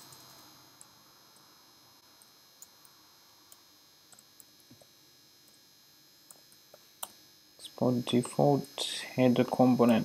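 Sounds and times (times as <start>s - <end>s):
faint high whine: 0.0s - 10.0s.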